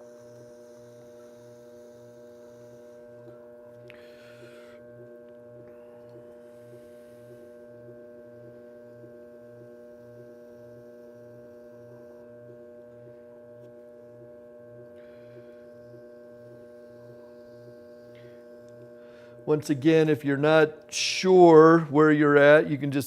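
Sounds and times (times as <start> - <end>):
potter's wheel motor humming: 0.0 - 23.0.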